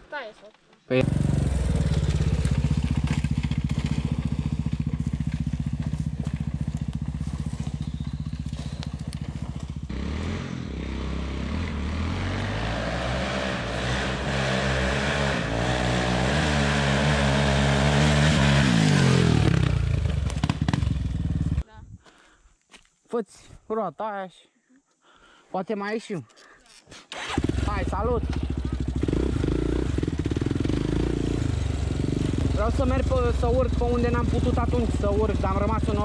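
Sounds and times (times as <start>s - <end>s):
quad bike engine revving: 1.0s - 21.6s, 27.1s - 36.0s.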